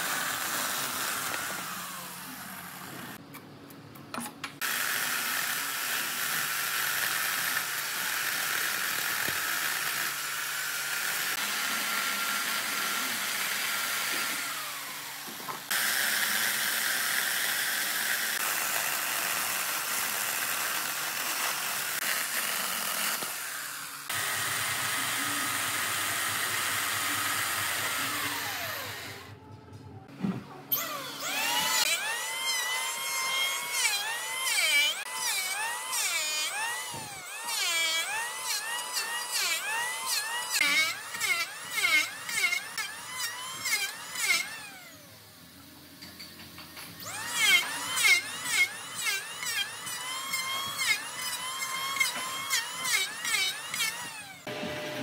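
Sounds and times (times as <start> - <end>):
electric chainsaw cutting wood: 0.0 - 3.2, 4.6 - 29.4, 30.7 - 45.2, 47.0 - 55.0
electric hand planer whining: 4.6 - 29.4, 30.7 - 45.1, 47.0 - 55.0.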